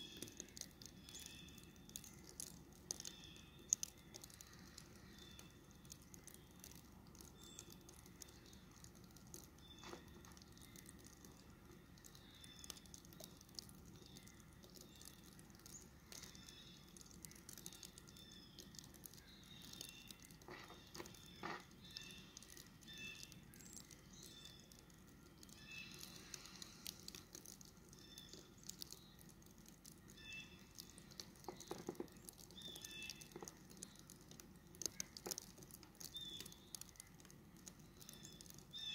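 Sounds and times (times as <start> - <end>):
soft ticks: 0.0 - 38.9.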